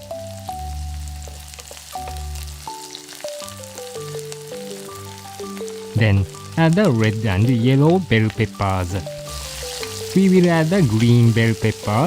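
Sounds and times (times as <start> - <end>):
onion sizzling in a frying pan: 0.0 - 12.0
simple melody music: 0.0 - 12.0.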